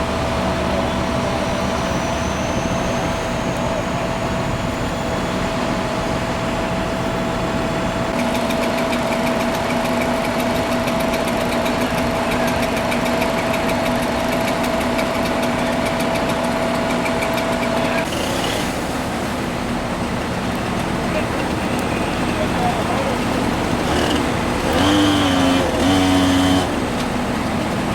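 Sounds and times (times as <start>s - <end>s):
truck engine idling: 0.0s - 27.9s.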